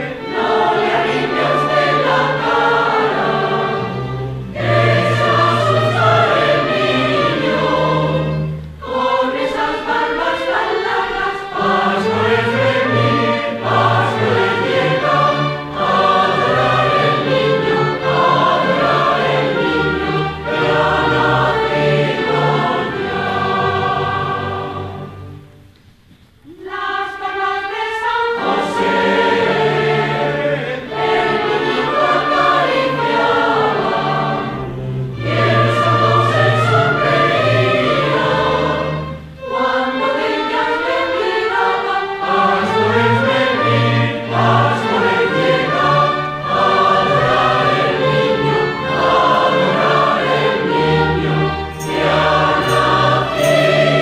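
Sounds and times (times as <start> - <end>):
mixed choir singing: 0.0 - 25.6, 26.4 - 54.0.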